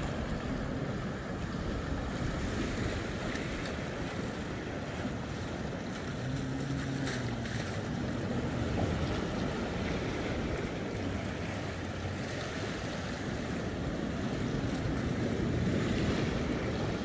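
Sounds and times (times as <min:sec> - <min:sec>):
waves breaking over boulders: 0:00.0 - 0:17.0.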